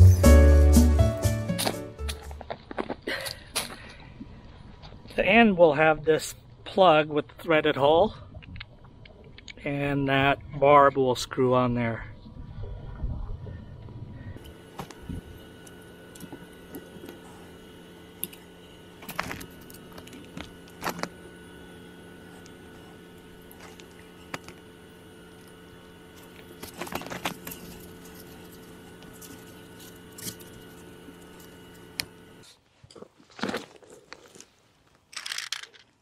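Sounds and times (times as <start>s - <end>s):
steady background hum: 1.6s - 36.0s.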